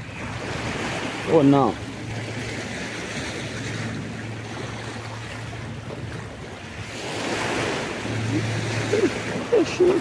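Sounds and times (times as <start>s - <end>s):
sea surf washing: 0.0s - 10.0s.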